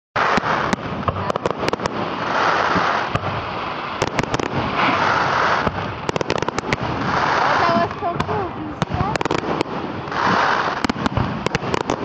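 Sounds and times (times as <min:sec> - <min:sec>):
fireworks bangs and crackles: 0:00.2 - 0:12.0
steady rushing noise: 0:00.2 - 0:12.0.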